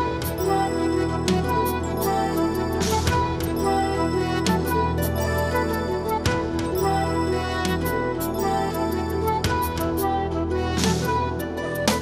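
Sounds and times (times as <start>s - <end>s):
slip jig music: 0.0s - 12.0s.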